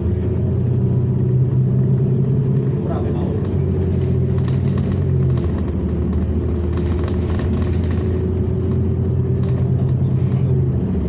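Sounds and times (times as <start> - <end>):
bus engine hum: 0.0 - 11.0
road rumble: 0.0 - 11.0.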